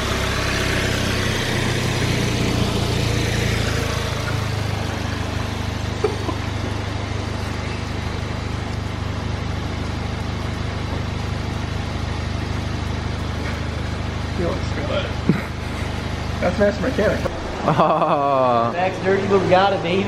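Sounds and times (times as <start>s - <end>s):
turbocharged car engine idling: 0.0s - 20.0s.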